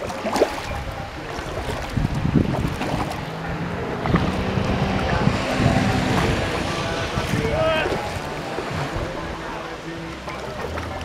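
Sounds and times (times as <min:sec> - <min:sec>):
wind buffeting microphone: 0:00.0 - 0:10.2
water splashing against kayak hull: 0:00.0 - 0:11.0.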